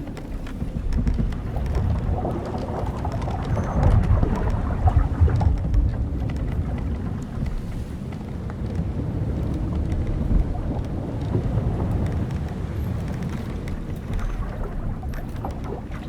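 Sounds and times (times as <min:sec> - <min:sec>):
wind and waves: 0:00.0 - 0:16.0
wooden hull creaking: 0:00.0 - 0:16.0.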